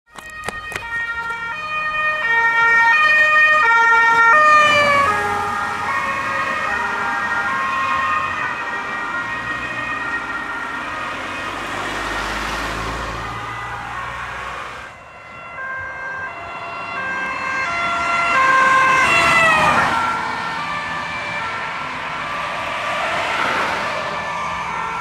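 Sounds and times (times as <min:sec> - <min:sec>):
two-tone police siren passing: 0:00.1 - 0:25.0.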